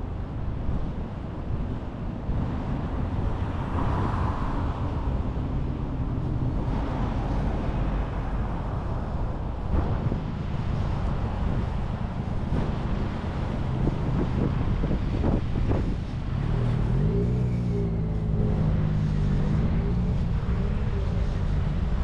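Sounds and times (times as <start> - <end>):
cars passing: 0.0 - 22.0
wind rumbling on microphone: 0.0 - 22.0.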